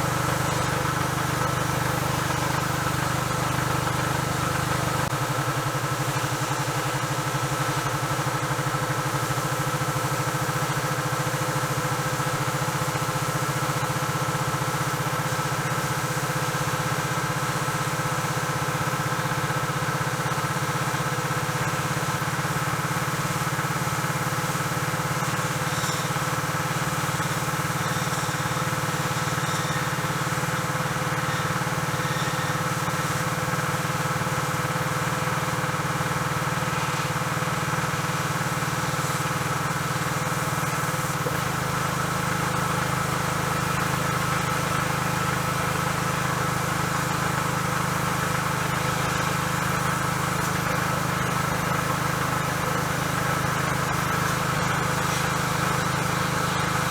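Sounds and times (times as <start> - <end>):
lawnmower engine idling: 0.0 - 56.9.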